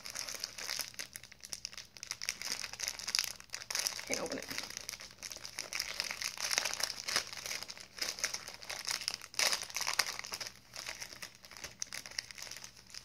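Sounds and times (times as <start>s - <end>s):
plastic snack packet crackling: 0.0s - 13.0s.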